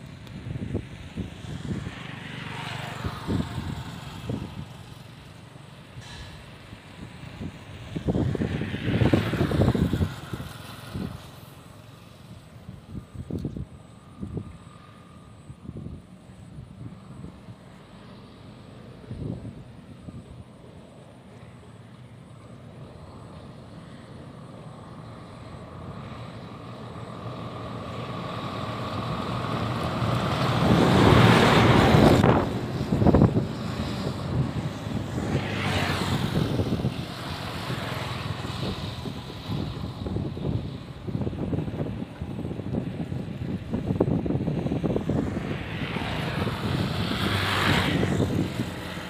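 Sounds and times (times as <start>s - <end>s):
wind buffeting microphone: 0.0s - 21.2s, 22.7s - 49.0s.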